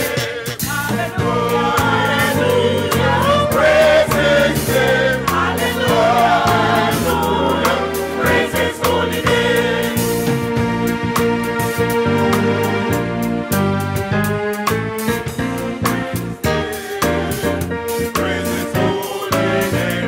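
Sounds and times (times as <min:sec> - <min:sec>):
church choir singing gospel: 0:00.0 - 0:20.0
instrumental accompaniment: 0:00.0 - 0:20.0.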